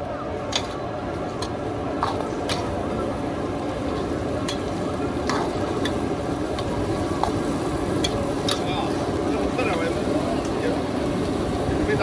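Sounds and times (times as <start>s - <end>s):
food sizzling in a wok: 2.1s - 12.0s.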